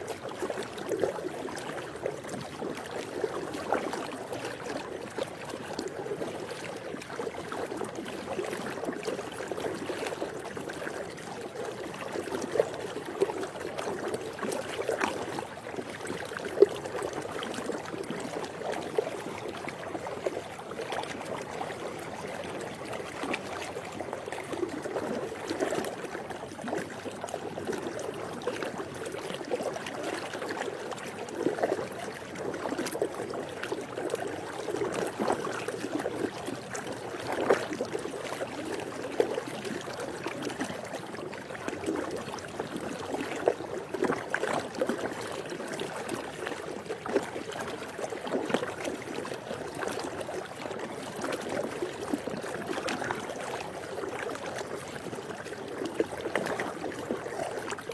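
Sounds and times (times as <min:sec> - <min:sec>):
pool water lapping and splashing: 0:00.0 - 0:57.9.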